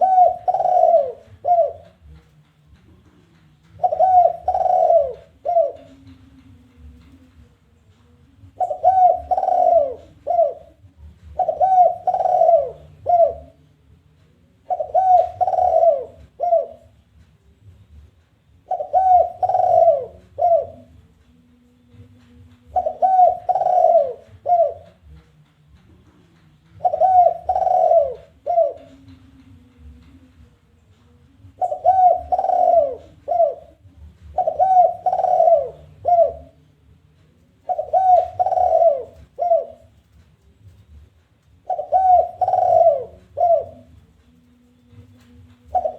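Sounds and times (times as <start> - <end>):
dove cooing: 0.0 - 2.3, 3.0 - 7.3, 8.4 - 13.7, 14.4 - 17.0, 18.6 - 21.1, 21.9 - 25.2, 26.7 - 30.3, 31.4 - 45.9.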